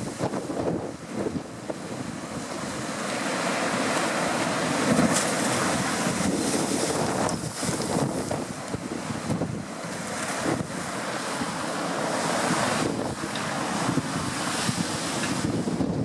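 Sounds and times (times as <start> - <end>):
waves breaking against sea wall: 0.0 - 16.0
wind buffeting microphone: 0.0 - 16.0.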